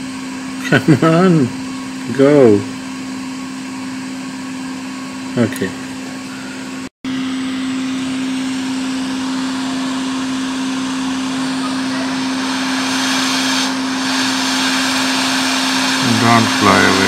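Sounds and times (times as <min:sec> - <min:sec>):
hot air station blowing: 0:00.0 - 0:17.0.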